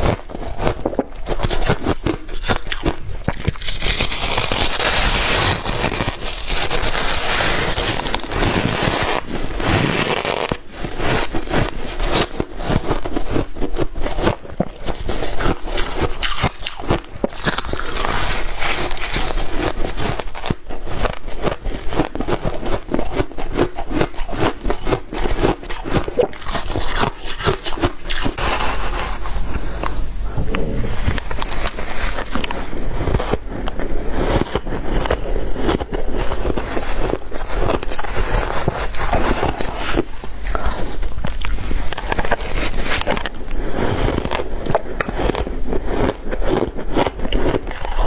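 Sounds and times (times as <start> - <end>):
ice being chewed: 0.0 - 48.0.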